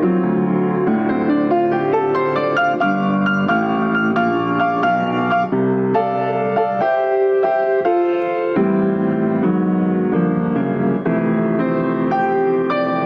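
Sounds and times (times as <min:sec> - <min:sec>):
slow piano piece: 0:00.0 - 0:13.0.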